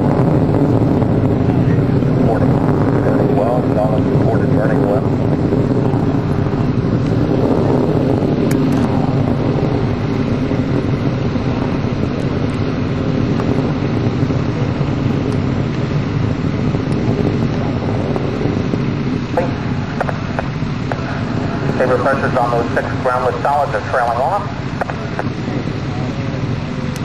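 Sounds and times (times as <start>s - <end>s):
distant rocket engine rumble: 0.0s - 27.0s.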